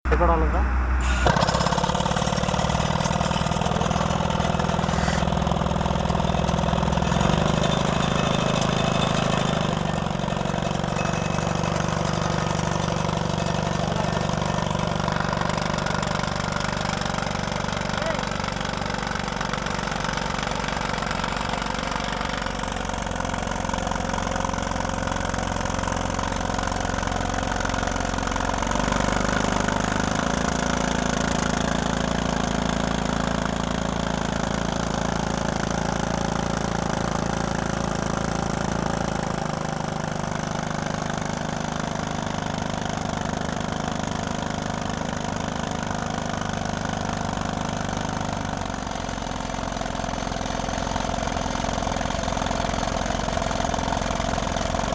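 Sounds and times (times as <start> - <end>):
drill rig engine running: 0.2 - 54.9.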